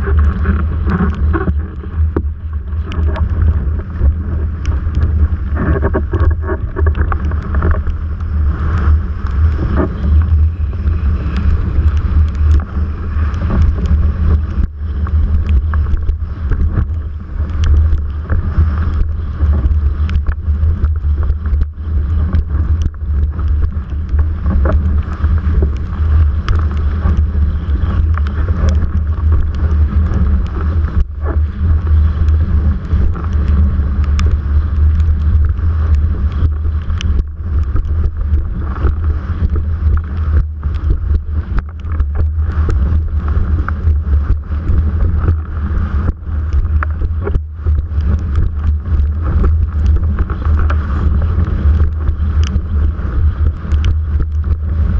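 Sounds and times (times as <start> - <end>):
water rushing past a board: 0.0 - 54.9
wind buffeting a camera: 0.0 - 54.9.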